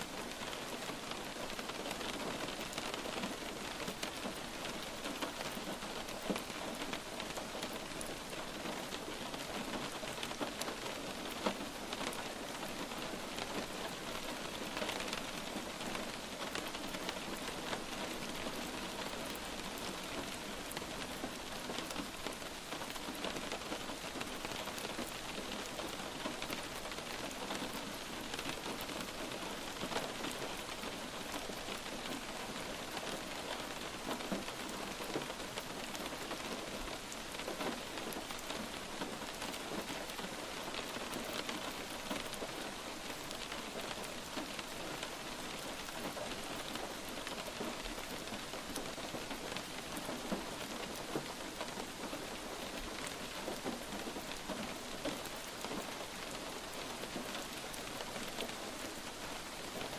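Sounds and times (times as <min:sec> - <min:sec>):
light rain falling: 0:00.0 - 0:59.9
raindrops ticking on a surface: 0:00.0 - 0:59.9.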